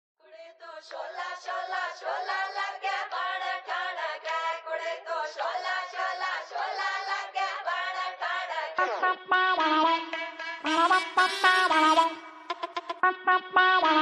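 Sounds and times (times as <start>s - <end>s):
high voices chanting a song: 0.6s - 12.4s.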